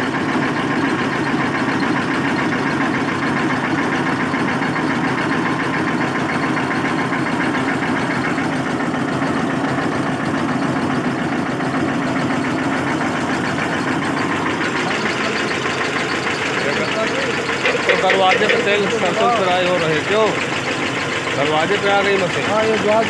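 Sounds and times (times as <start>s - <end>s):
oil expeller mechanical drone: 0.0s - 23.0s
tractor diesel engine chugging: 0.0s - 23.0s.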